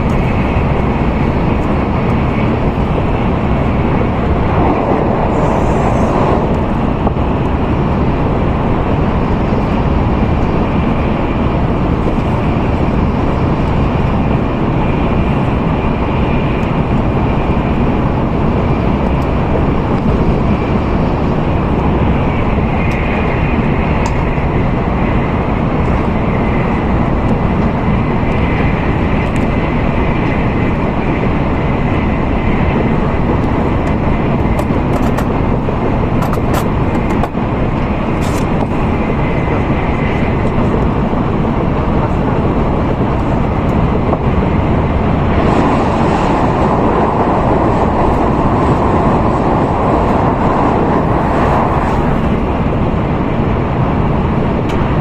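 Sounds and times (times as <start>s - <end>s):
train running noise inside cabin: 0.0s - 55.0s.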